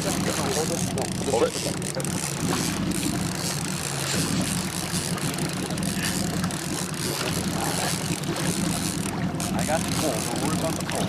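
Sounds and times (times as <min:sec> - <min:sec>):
boat engine low hum: 0:00.0 - 0:11.0
wind and water hiss: 0:00.0 - 0:11.0.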